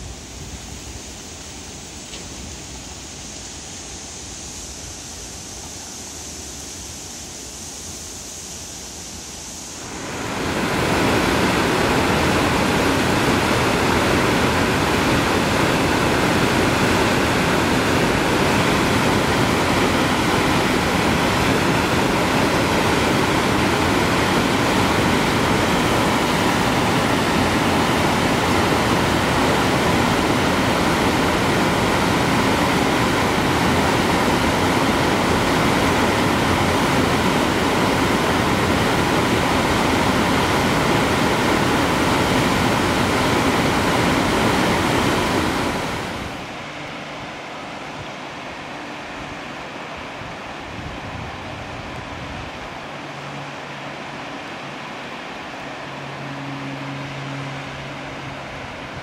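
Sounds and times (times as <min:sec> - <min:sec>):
river rapids hissing: 0:00.0 - 0:59.0
waterfall rushing over rock: 0:07.6 - 0:59.0.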